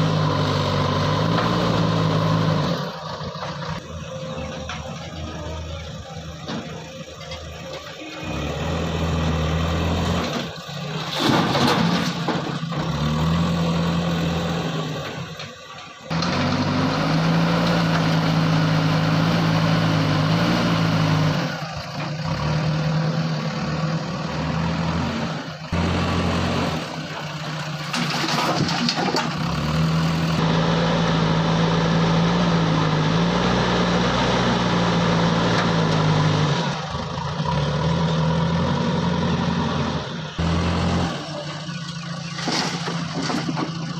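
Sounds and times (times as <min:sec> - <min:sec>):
diesel engine revving: 0:00.0 - 0:43.9.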